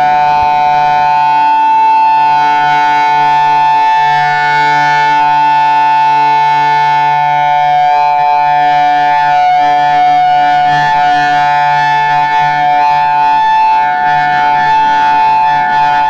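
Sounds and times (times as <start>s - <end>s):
outdoor warning siren: 0.0s - 16.0s.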